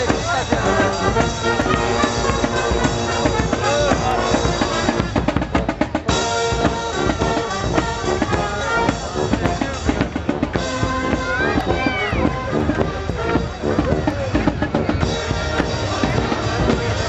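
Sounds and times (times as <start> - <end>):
bass and snare drums beating: 0.0 - 17.0
wind instruments holding notes: 0.0 - 17.0.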